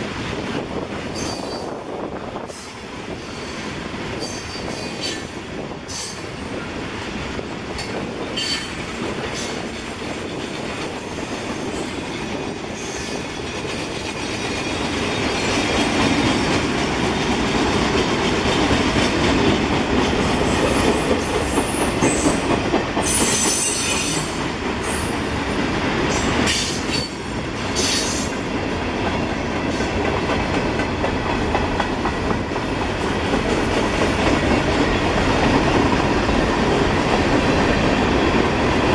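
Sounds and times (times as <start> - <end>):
train wheels clattering: 0.0 - 38.9.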